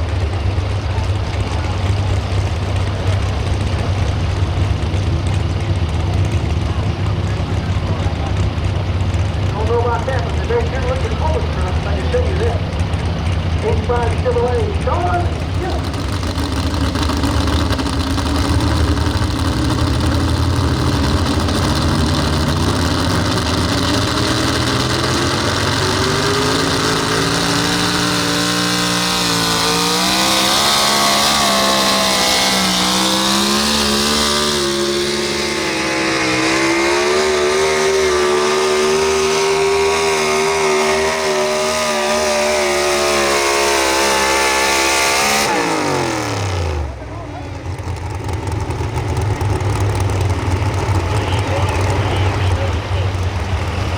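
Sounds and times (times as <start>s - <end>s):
truck engine revving under load: 0.0s - 53.9s.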